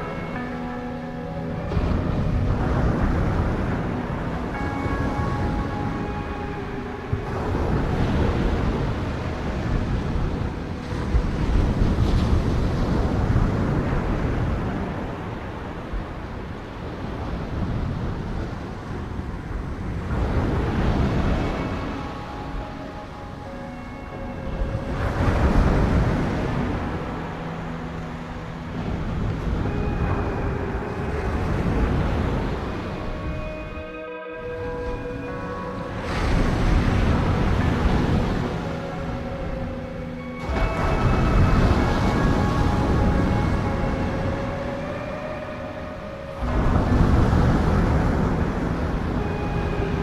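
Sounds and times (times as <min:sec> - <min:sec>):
sea surf washing ashore: 0:00.0 - 0:50.0
waves breaking on shore: 0:00.0 - 0:50.0
wind buffeting microphone: 0:00.0 - 0:50.0.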